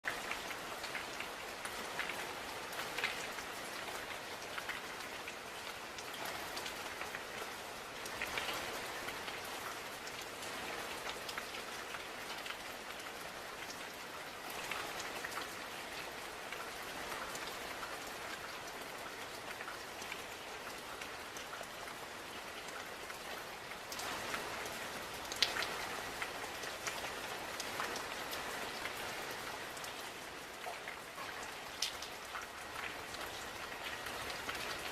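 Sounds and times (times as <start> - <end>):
raindrops pattering: 0.0 - 34.9
steady rain hiss: 0.0 - 34.9.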